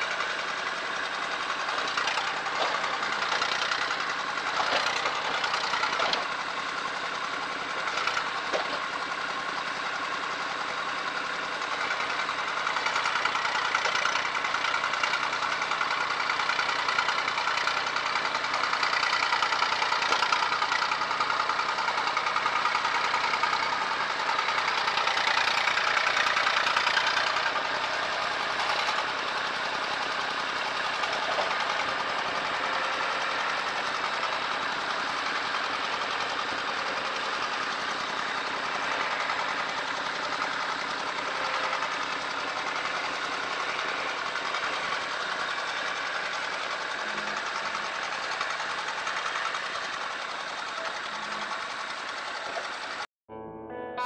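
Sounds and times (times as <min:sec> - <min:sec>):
tractor engine running: 0:00.0 - 0:53.1.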